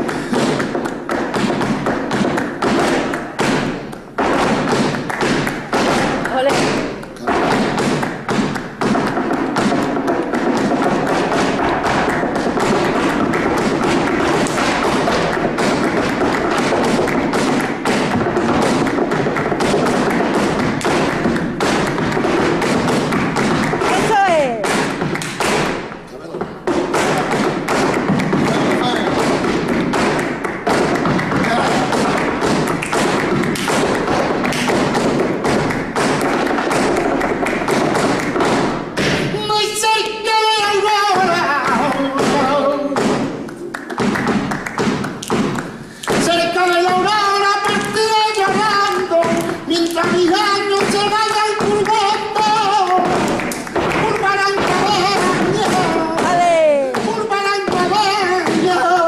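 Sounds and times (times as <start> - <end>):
dance heel and toe strikes: 0.0 - 39.4, 40.6 - 59.0.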